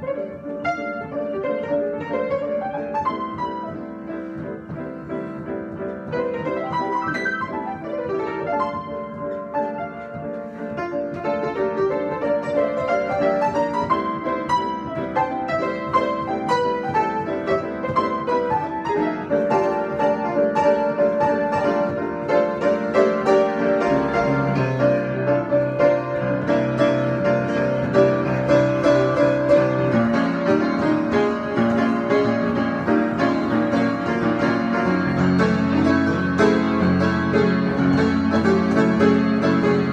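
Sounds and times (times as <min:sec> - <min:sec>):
improvised piano playing: 0:00.0 - 0:39.9.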